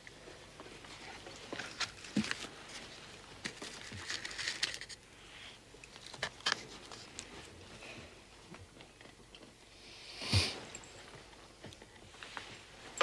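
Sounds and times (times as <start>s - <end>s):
soft rustling handling noise: 0.0s - 9.6s, 10.6s - 13.0s.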